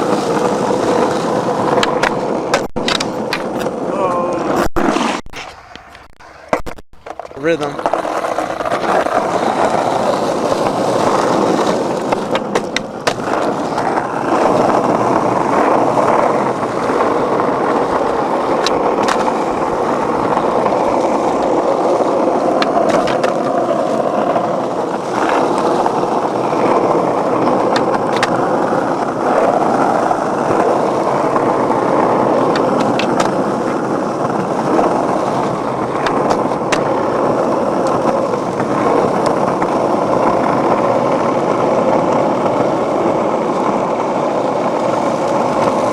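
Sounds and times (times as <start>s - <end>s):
skateboard clacks: 0.0s - 45.9s
skateboard wheels rolling on concrete: 0.0s - 45.9s.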